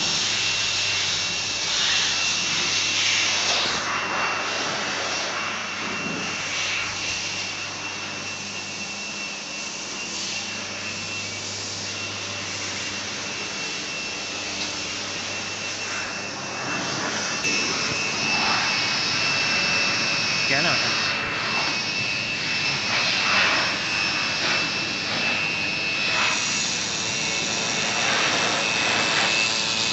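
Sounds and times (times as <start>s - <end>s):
laser welding machine hiss and whine: 0.0s - 29.9s.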